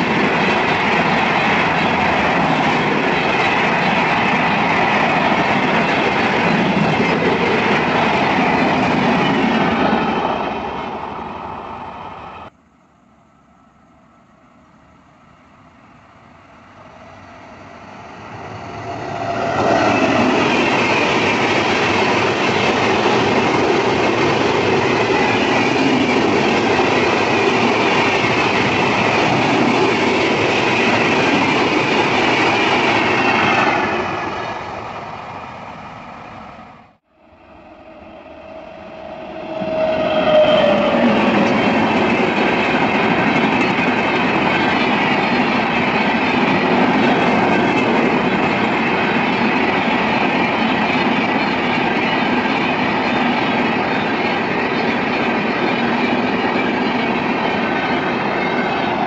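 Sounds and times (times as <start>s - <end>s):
train running past on rails: 0.0s - 59.0s.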